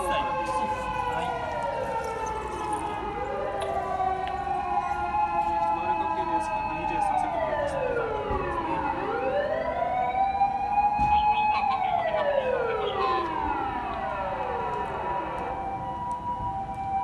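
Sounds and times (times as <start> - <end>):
police siren wailing: 0.0 - 17.0.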